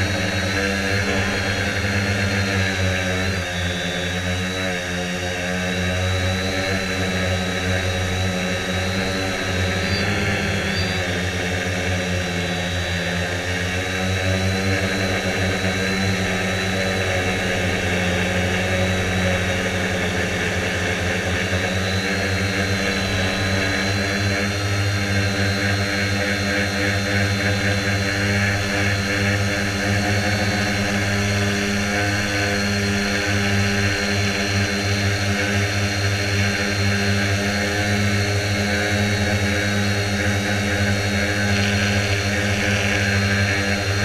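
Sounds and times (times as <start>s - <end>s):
quadcopter motors whirring: 0.0s - 44.0s.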